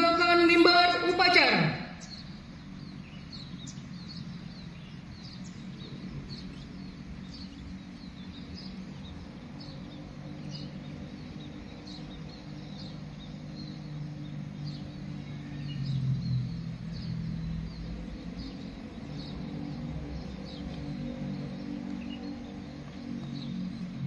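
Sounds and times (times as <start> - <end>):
small birds chirping: 0.0 - 24.0
steady low hum: 0.0 - 24.0.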